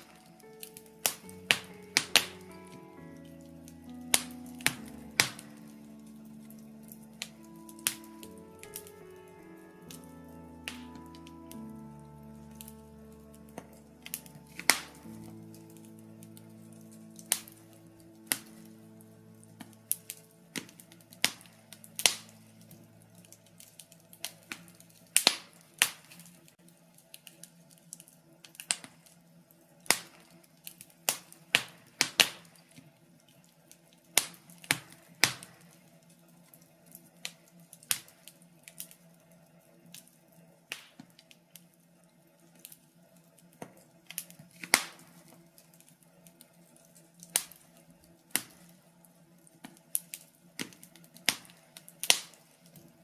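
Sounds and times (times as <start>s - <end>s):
logs crackling in a fireplace: 0.0s - 53.0s.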